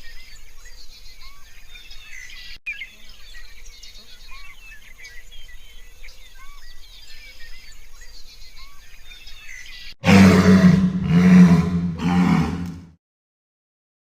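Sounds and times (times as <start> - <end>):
birds chirping in chorus: 0.0 - 12.8.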